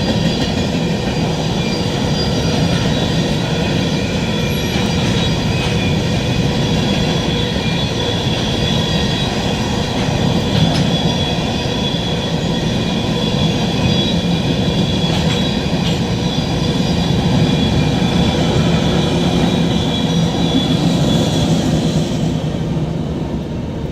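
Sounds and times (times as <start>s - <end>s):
high wheel squeal: 0.0s - 22.5s
freight cars rumbling on rails: 0.0s - 23.9s.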